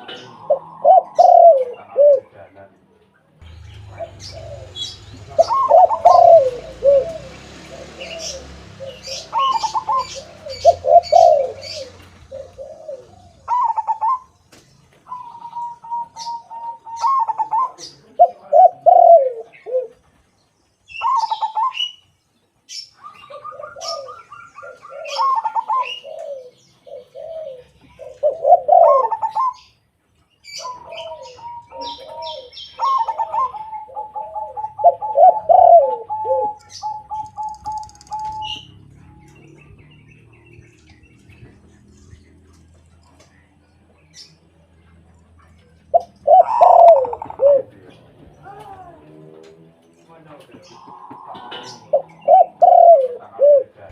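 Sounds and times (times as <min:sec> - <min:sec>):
doves cooing: 0:00.0 - 0:02.7, 0:03.4 - 0:20.3, 0:20.9 - 0:22.1, 0:22.7 - 0:53.9.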